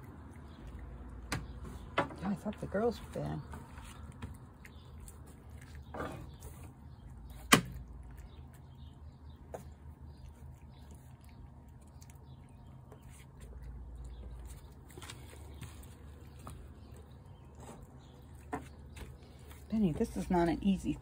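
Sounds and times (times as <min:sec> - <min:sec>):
cat eating ticks: 0:00.0 - 0:05.9, 0:06.7 - 0:20.9.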